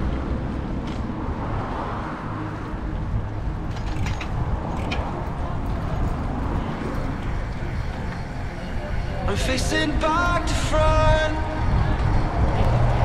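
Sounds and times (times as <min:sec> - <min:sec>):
bicycle tyre noise on path: 0:00.0 - 0:13.0
wind rushing over microphone: 0:00.0 - 0:13.0.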